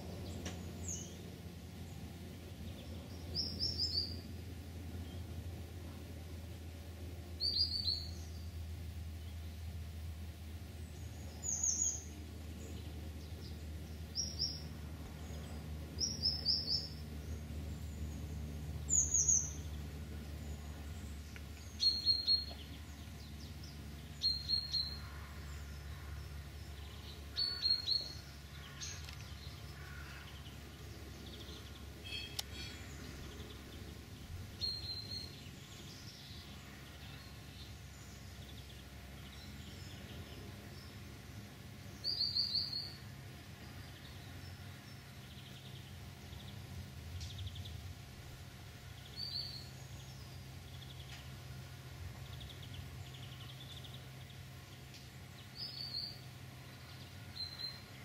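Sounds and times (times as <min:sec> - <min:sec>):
small songbird chirping: 0:00.0 - 0:05.4, 0:07.3 - 0:09.8, 0:10.4 - 0:58.0
low background hum: 0:00.0 - 0:58.0.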